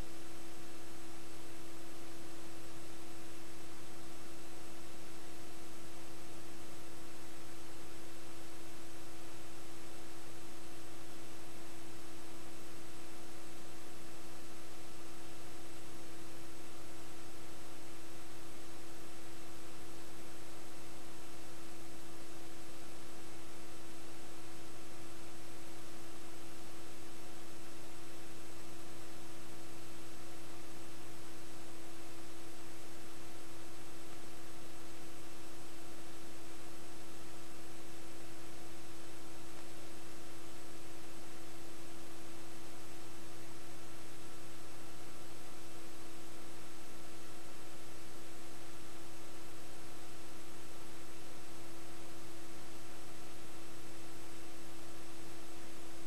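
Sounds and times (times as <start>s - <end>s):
constant hiss: 0.0s - 56.0s
steady electrical hum: 0.0s - 56.0s.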